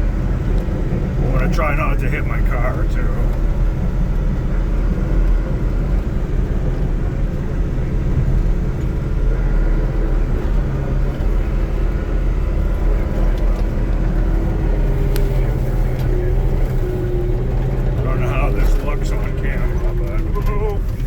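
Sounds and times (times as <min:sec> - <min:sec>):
skid steer engine droning: 0:00.0 - 0:21.0.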